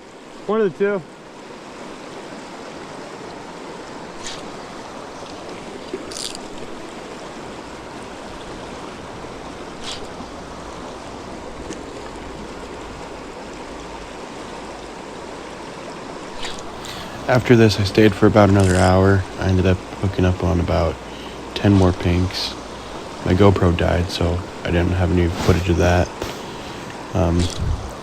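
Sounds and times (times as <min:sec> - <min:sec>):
creek water running: 0:00.0 - 0:28.0.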